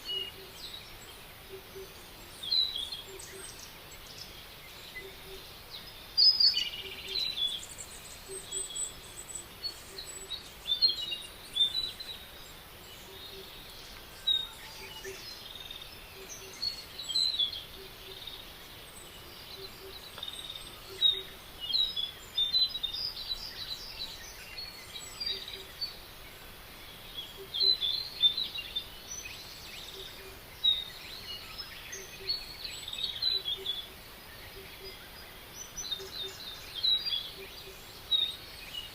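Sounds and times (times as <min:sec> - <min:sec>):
songbirds chirping and trilling: 0:00.0 - 0:38.9
steady background hiss: 0:00.0 - 0:38.9.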